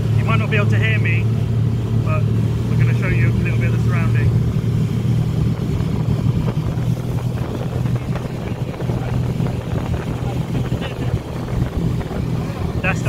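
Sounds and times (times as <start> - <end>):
speedboat engine droning: 0.0 - 13.0
wind buffeting microphone: 1.2 - 13.0.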